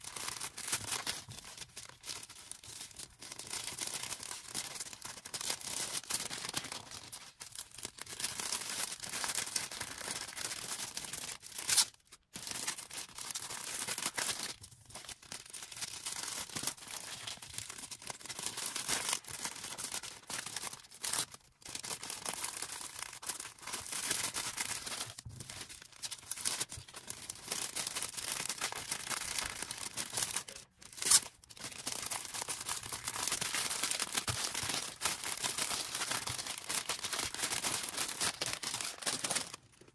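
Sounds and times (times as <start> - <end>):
crinkling plastic and paper wrapping: 0.0 - 39.9
wrapping tearing: 0.0 - 39.9.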